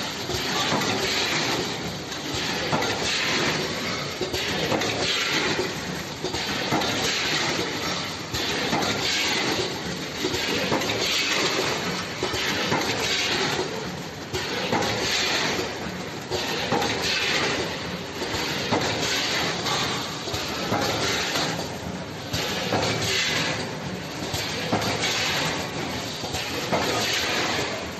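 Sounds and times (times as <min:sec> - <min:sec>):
packing machine clattering: 0:00.0 - 0:27.9.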